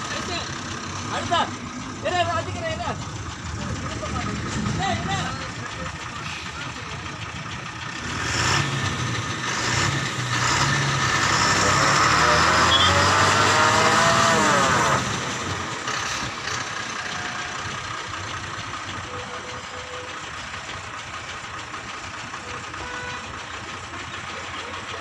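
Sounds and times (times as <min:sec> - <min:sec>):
engine and road noise: 0:00.0 - 0:25.0
lorry engine running hard: 0:00.0 - 0:25.0.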